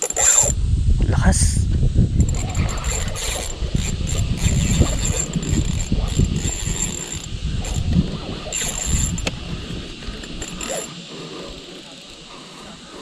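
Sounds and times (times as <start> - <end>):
fishing reel drag ratcheting: 0.0 - 0.6, 2.1 - 13.0.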